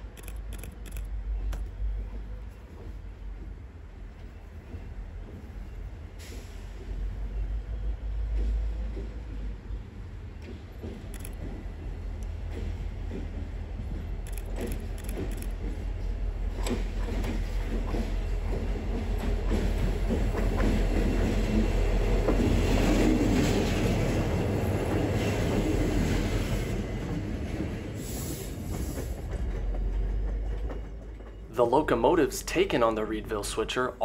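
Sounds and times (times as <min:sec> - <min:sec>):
diesel locomotive engine drone: 0:00.0 - 0:34.0
train wheels rumbling on rails: 0:00.0 - 0:34.0.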